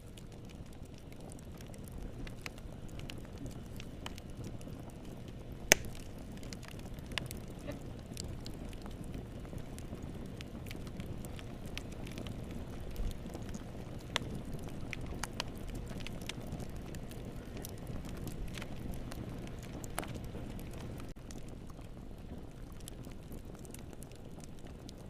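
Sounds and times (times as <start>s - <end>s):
fire crackling and popping: 0.0s - 25.0s
fire low rumble: 0.0s - 25.0s.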